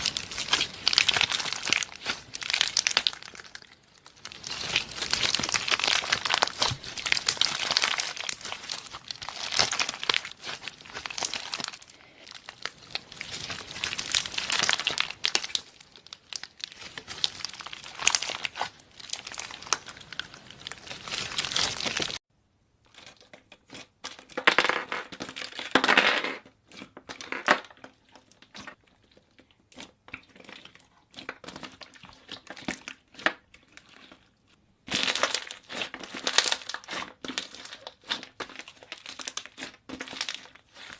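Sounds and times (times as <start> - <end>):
slime crinkling and crackling: 0.0 - 22.2, 22.8 - 40.9.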